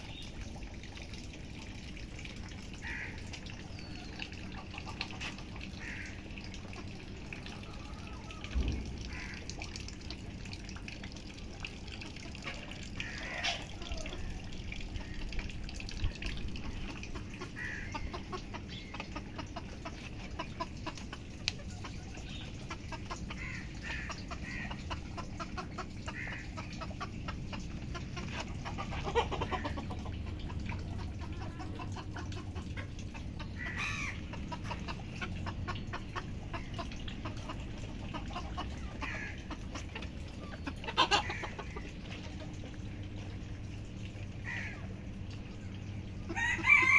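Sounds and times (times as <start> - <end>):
chickens clucking: 0.0 - 46.9.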